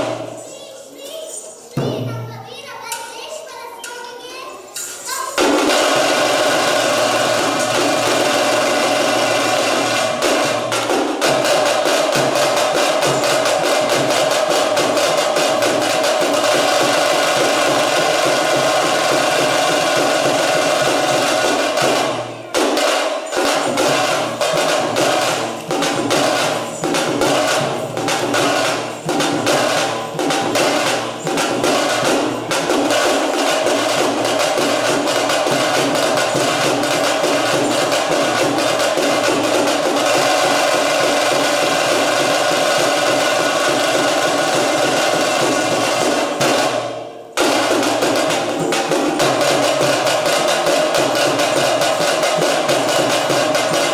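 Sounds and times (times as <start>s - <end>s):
fast dense drumming: 5.4s - 53.9s.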